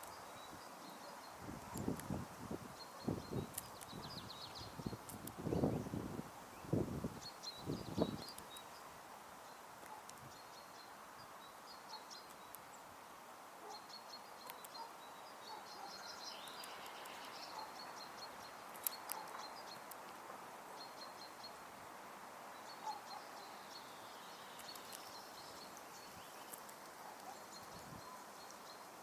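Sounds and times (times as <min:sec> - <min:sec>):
outdoor background hiss: 0:00.0 - 0:29.0
songbird chirps and trills: 0:00.0 - 0:29.0.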